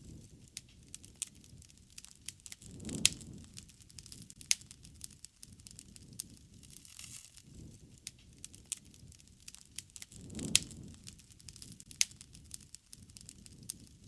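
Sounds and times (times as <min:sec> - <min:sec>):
low rush of flames: 0:00.0 - 0:14.0
wood fire crackling: 0:00.0 - 0:14.0.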